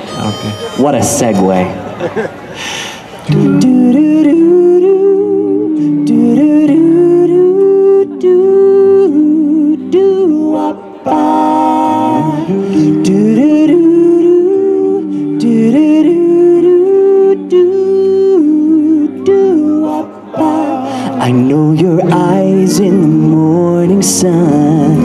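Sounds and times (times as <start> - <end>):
male quartet singing chords: 2.2 - 25.0.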